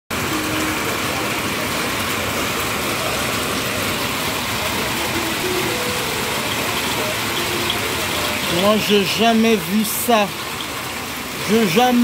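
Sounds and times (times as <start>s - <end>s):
hail and heavy rain hissing: 0.2s - 12.0s
faint hail ticks: 1.7s - 12.0s.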